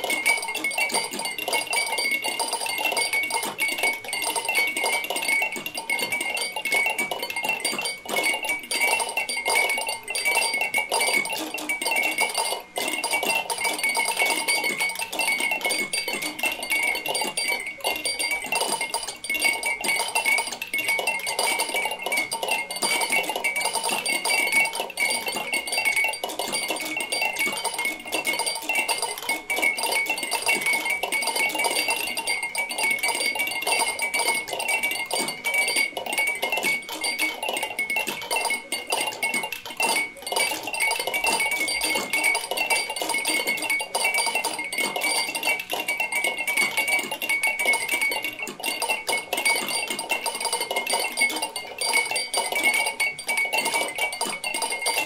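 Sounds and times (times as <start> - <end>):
clatter of small clinks: 0.0 - 55.0
ringing tones: 0.0 - 55.0.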